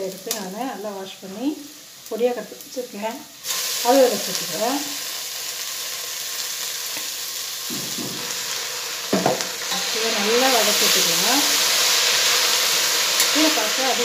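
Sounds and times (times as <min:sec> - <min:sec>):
onions and greens sizzling in oil: 0:00.0 - 0:14.0.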